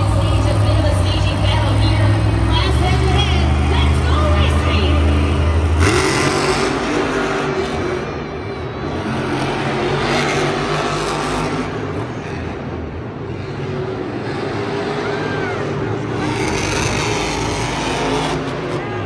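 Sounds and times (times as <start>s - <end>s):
monster truck engine running: 0.0s - 19.0s.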